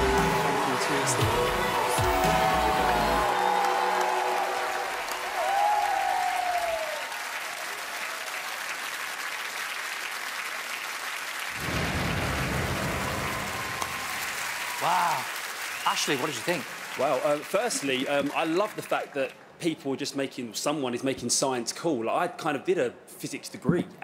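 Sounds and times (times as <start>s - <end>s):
audience applauding and cheering: 0.0s - 19.4s.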